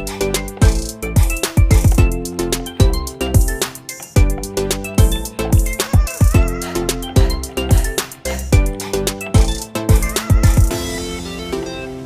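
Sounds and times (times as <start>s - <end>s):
music with steady drum beat: 0.0s - 11.6s.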